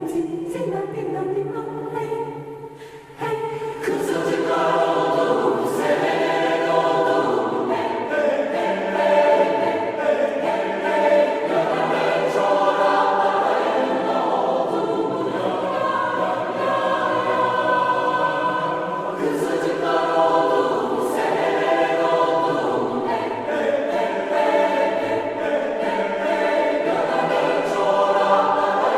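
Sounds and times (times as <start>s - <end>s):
choir singing ringtone: 3.2s - 28.9s.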